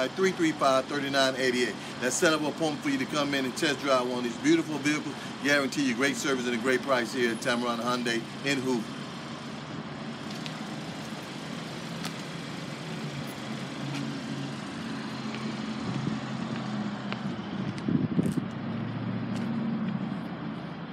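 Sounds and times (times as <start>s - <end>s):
road traffic rumble: 0.0s - 20.9s.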